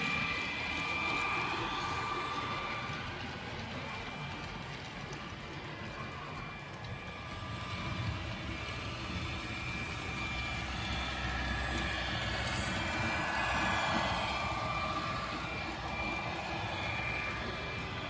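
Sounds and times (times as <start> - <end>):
model train diesel engine sound: 0.0 - 18.0
model train wheels rumbling on track: 0.0 - 18.0.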